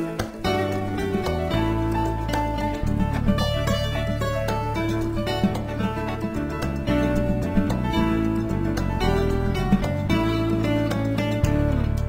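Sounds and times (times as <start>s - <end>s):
low bass: 0.0s - 12.0s
plucked string notes: 0.0s - 12.0s.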